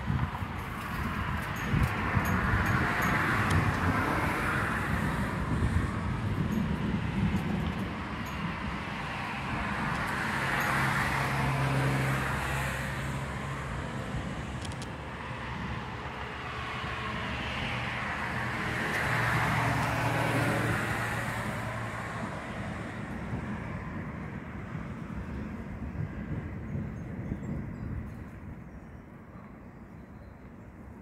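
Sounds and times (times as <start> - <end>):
vehicles passing by: 0.0 - 31.0.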